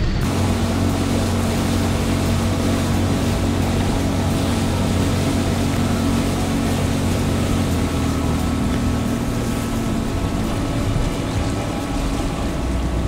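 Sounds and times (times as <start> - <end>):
motorboat engine running: 0.0 - 13.0
water rushing along hull: 0.0 - 13.0.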